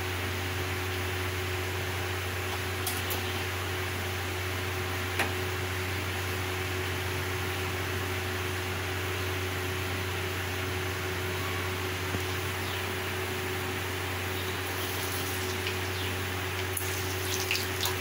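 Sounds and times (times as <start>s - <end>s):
mechanical hum with hiss: 0.0s - 18.0s.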